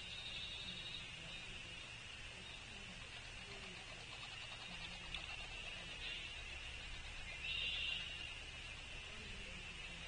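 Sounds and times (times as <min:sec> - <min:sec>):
high-pitched animal chorus: 0:00.0 - 0:10.0.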